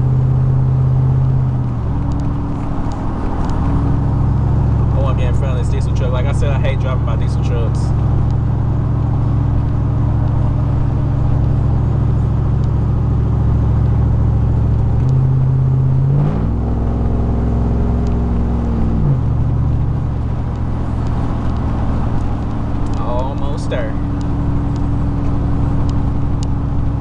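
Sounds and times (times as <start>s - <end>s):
car engine droning: 0.0s - 27.0s
road noise: 0.0s - 27.0s.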